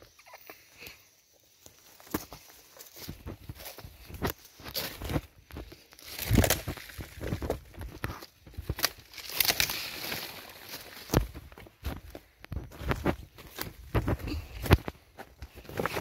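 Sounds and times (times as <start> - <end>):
footsteps crunching dry leaves: 1.4 - 16.0.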